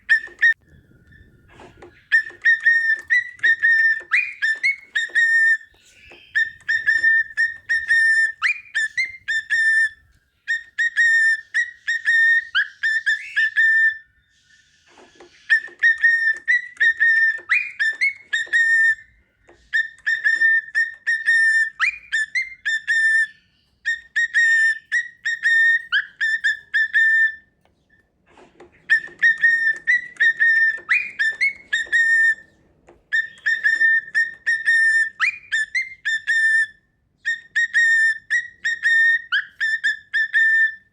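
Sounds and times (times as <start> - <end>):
cockatiel whistling a tune: 0.0 - 28.0, 28.7 - 40.9.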